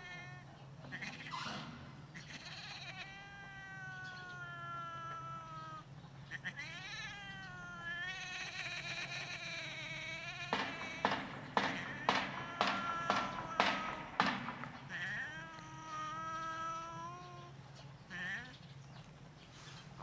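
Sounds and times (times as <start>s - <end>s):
cat yowling: 0.0s - 18.5s.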